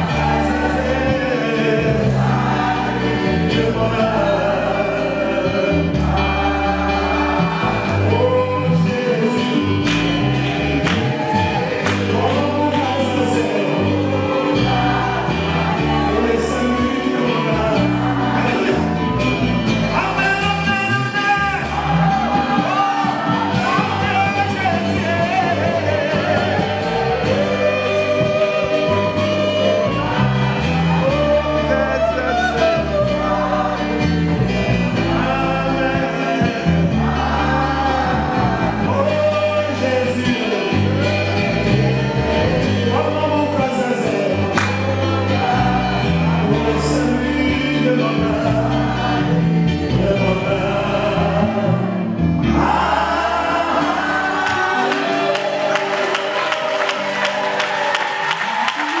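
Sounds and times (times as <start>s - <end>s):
man singing through microphone: 0.0s - 56.3s
bass line: 0.0s - 59.0s
live band playing: 0.0s - 59.0s
other voices singing: 0.0s - 59.0s.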